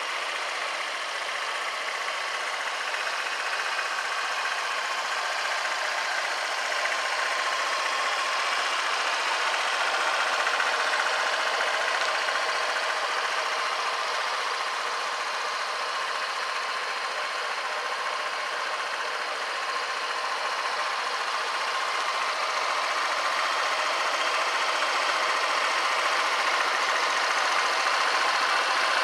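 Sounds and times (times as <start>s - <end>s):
scooter engine idling: 0.0s - 29.0s.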